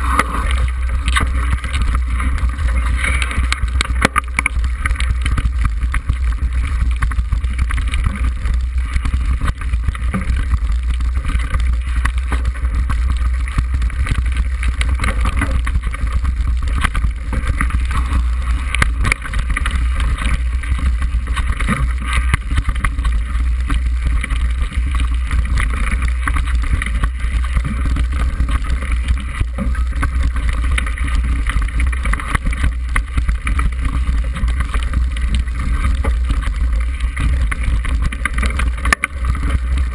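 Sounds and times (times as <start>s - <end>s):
bike rattling over stones: 0.0s - 39.9s
wind rumbling on microphone: 0.0s - 39.9s.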